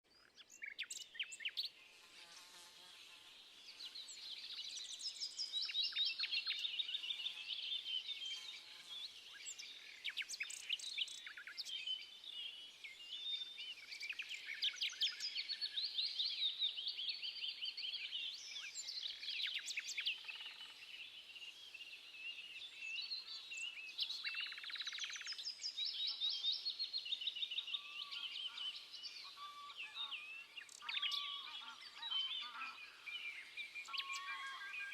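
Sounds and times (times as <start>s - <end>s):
songbirds chirping and singing: 0.1s - 2.1s, 3.2s - 34.9s.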